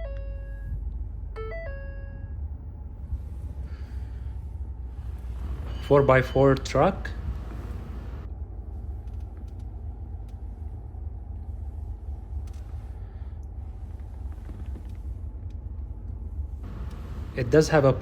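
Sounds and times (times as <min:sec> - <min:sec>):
engine idling low rumble: 0:00.0 - 0:18.0.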